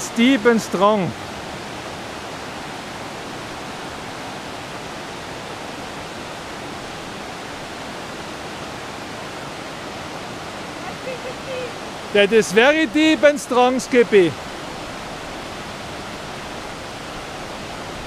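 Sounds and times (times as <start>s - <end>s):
river rushing over cascades: 0.0s - 18.0s.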